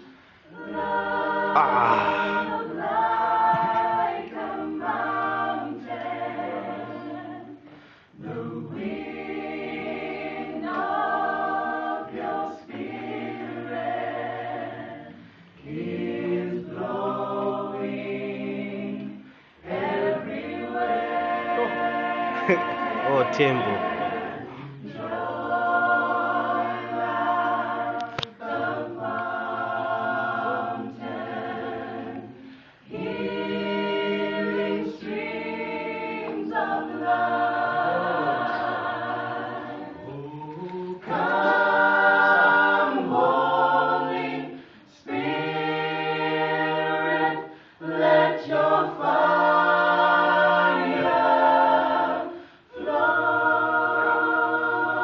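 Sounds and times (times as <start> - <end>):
vocal group singing a cappella: 0.0 - 55.0.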